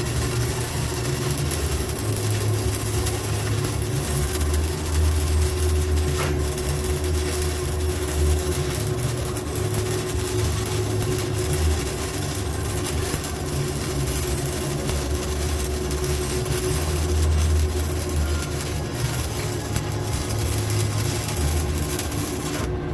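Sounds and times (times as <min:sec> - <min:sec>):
low steady hum: 0:00.0 - 0:22.9
welding arc crackling and hissing: 0:00.0 - 0:22.9.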